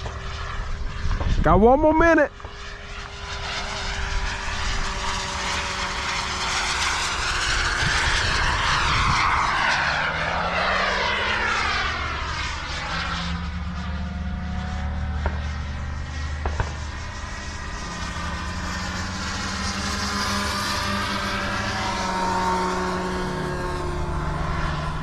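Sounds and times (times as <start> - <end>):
model airplane engine flying past: 0.0 - 25.0.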